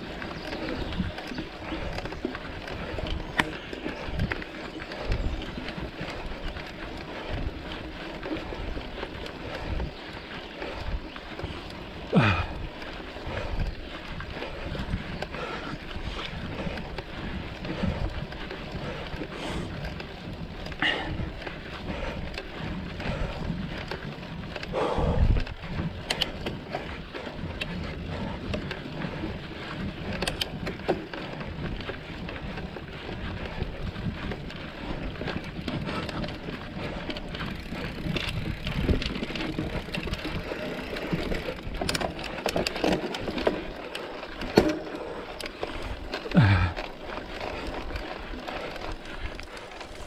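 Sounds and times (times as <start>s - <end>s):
bike rattles and clicks: 0.0s - 50.0s
bike tyre noise on dirt: 0.0s - 50.0s.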